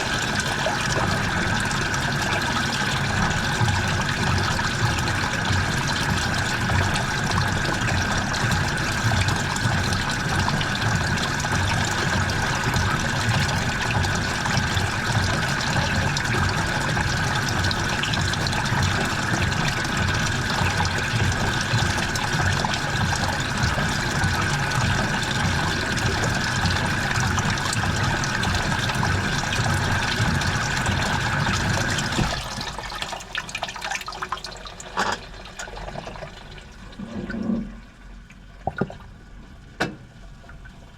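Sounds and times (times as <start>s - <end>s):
water trickling and dripping: 0.0s - 37.0s, 38.2s - 40.9s
water rushing into washing machine: 0.0s - 40.9s.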